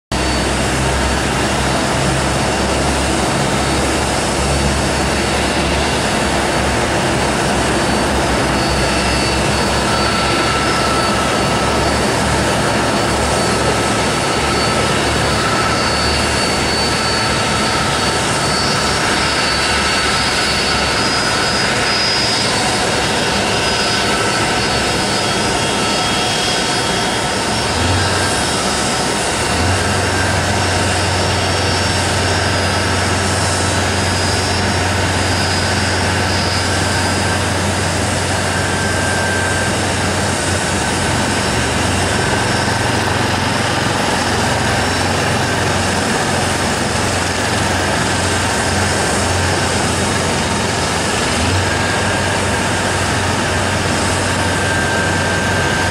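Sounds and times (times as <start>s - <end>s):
high engine whines: 0.1s - 55.9s
jet engines running: 0.1s - 55.9s.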